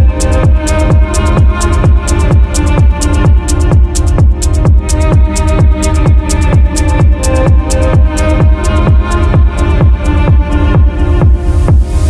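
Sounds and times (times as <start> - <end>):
electronic dance music: 0.0 - 12.0
held synth chords: 0.0 - 12.0
kick drum beat: 0.0 - 12.0
ticking hi-hats: 0.0 - 12.0.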